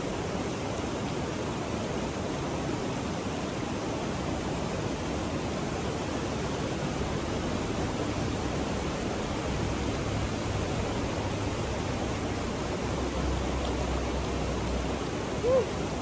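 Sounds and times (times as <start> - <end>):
river flowing over rock: 0.0 - 16.0.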